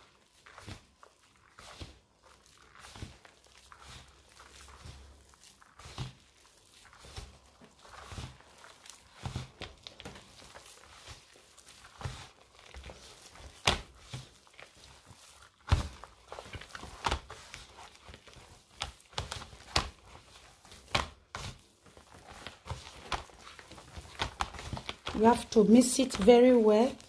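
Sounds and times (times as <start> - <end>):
dough mixed by hand in bowl: 0.0 - 27.0.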